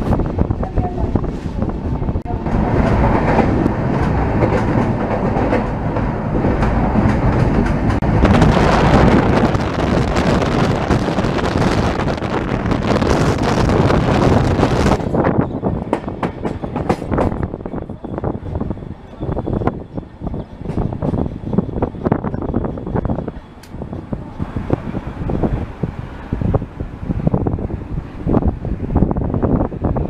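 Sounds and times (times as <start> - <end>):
train wheels rushing on rail: 0.0 - 30.0.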